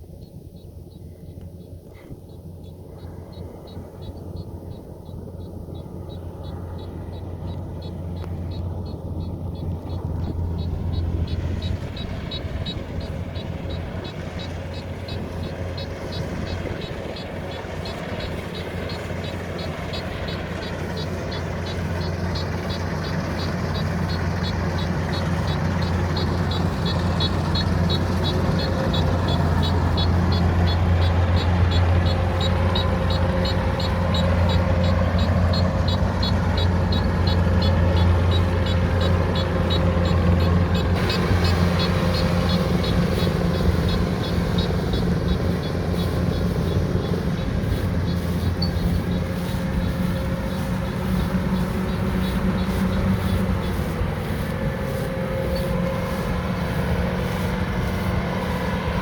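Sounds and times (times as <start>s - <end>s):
harvester engine hum: 0.0s - 59.0s
fast even ticking: 2.6s - 59.0s.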